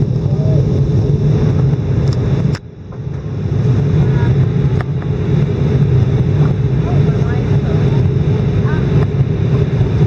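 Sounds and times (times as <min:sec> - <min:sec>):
airplane engine cabin rumble: 0:00.0 - 0:10.0.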